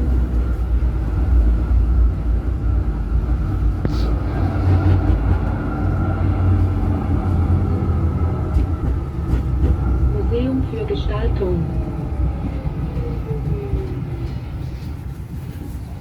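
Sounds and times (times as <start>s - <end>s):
tram drive hum: 0.0s - 16.0s
tram wheels rumbling on rails: 0.0s - 16.0s.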